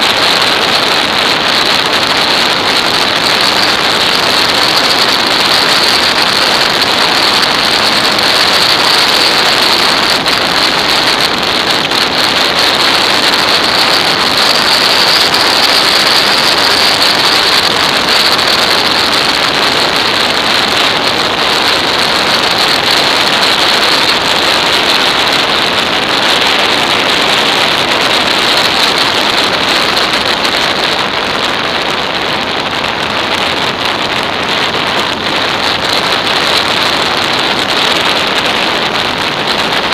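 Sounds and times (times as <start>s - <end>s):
wind and road noise: 0.0s - 39.9s
wind buffeting the microphone: 0.0s - 39.9s.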